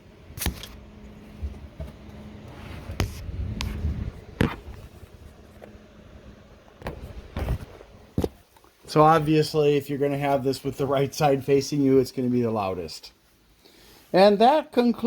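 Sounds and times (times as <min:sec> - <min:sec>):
computer fans humming: 0:00.0 - 0:12.6.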